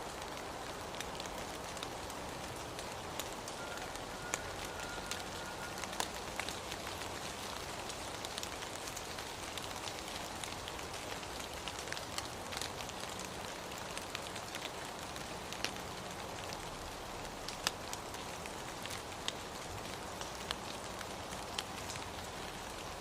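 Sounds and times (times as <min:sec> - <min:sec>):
raindrops ticking close by: 0:00.0 - 0:23.0
steady rain hiss: 0:00.0 - 0:23.0.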